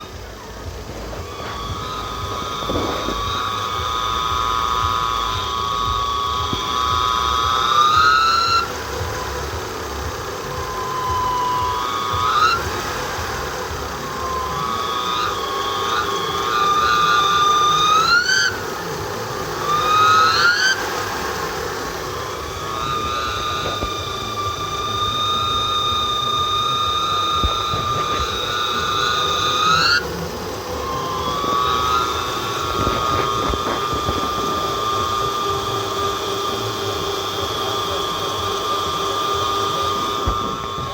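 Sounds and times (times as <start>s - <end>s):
car engine revving: 0.0s - 40.9s
timing belt whistle: 0.0s - 40.9s.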